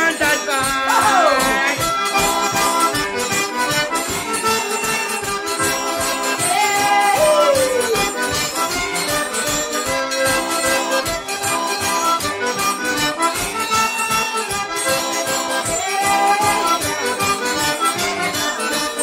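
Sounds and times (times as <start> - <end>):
instrumental folk music: 0.0 - 19.0.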